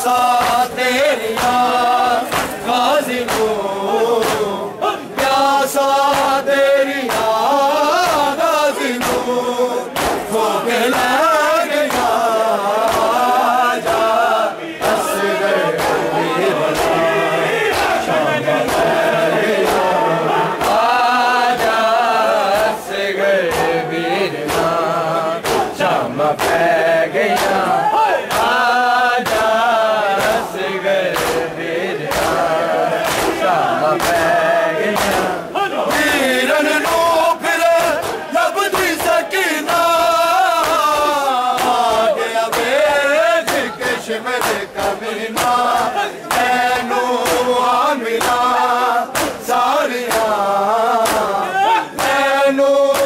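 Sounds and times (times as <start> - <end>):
crowd of men chanting: 0.0 - 53.0
hands slapping bare chests: 0.3 - 4.6, 6.0 - 8.4, 9.0 - 9.3, 9.9 - 11.2, 11.8 - 12.2, 12.8 - 16.1, 16.7 - 17.0, 18.6 - 19.0, 19.6 - 20.0, 20.6 - 21.9, 23.4 - 30.5, 31.1 - 50.4, 51.0 - 53.0.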